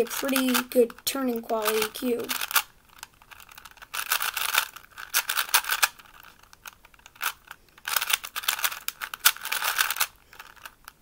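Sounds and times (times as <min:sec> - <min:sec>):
puzzle cube clicking when turned: 0:00.0 - 0:11.0.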